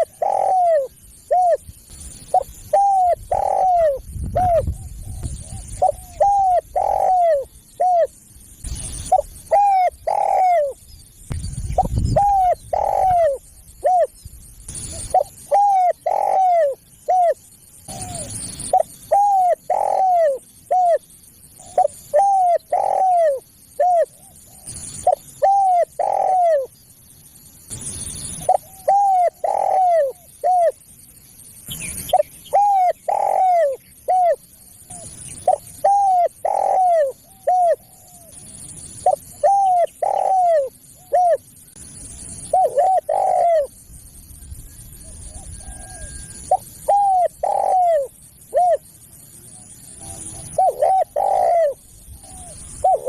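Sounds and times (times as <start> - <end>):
dove cooing: 0.0 - 10.8, 11.7 - 26.7, 28.4 - 30.8, 32.0 - 41.5, 42.4 - 43.8, 45.0 - 48.9, 49.5 - 53.0.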